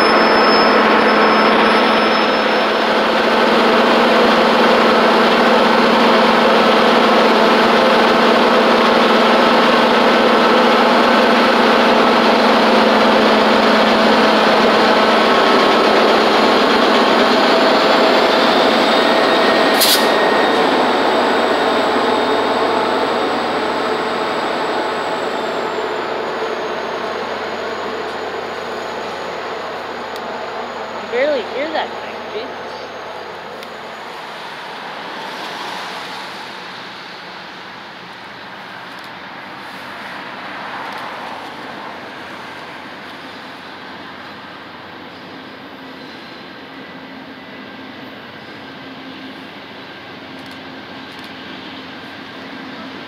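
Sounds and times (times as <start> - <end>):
diesel train engine drone: 0.0 - 53.0
train wheels on rails: 0.0 - 53.0.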